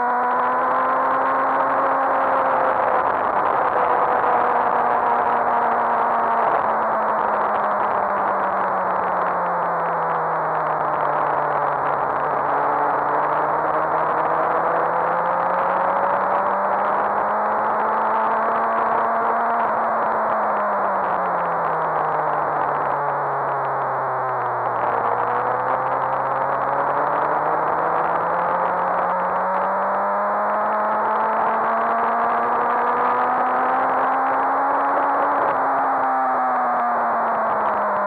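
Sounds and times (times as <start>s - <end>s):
motorcycle engine at speed: 0.0s - 38.0s.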